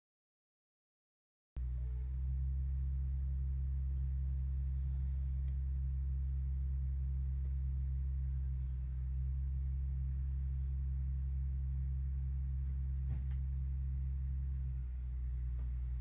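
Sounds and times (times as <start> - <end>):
low electrical hum: 1.6 - 16.0.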